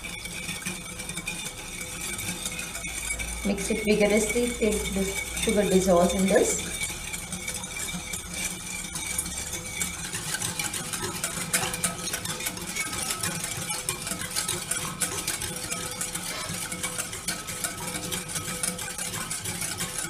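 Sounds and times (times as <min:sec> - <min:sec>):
utensil stirring and clicking: 0:00.0 - 0:20.0.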